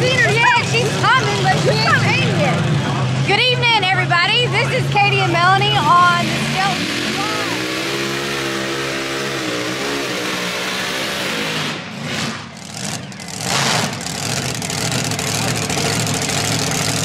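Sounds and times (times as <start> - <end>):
distant tractor engines: 0.0 - 17.0
track noise: 0.0 - 17.0.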